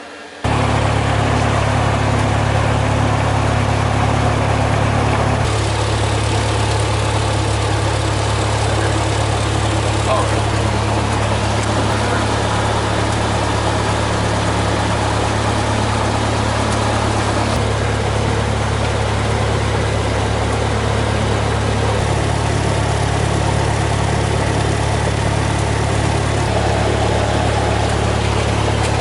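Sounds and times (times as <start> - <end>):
airplane engine droning in cabin: 0.0 - 29.0.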